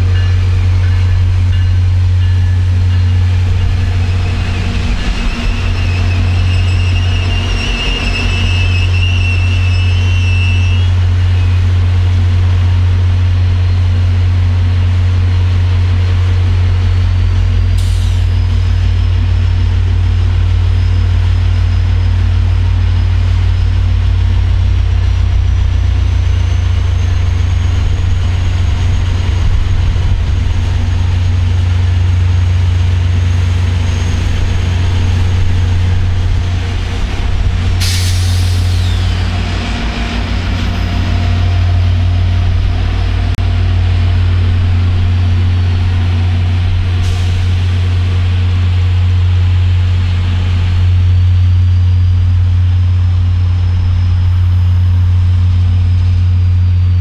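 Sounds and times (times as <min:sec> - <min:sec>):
diesel locomotive rumbling: 0:00.0 - 0:57.0.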